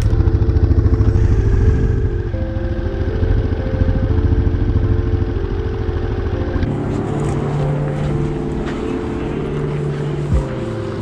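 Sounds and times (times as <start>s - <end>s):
motorcycle engine rumbling: 0.0s - 11.0s
steady low hum: 0.0s - 11.0s.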